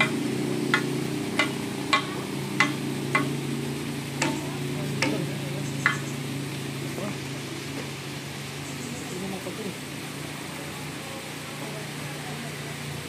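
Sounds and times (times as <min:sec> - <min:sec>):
river water rippling: 0:00.0 - 0:13.0.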